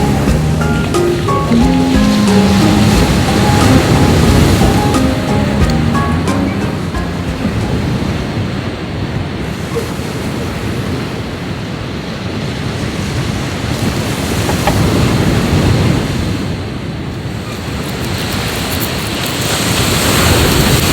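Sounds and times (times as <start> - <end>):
surf washing onto shore: 0.0 - 20.9
wind buffeting microphone: 0.0 - 20.9.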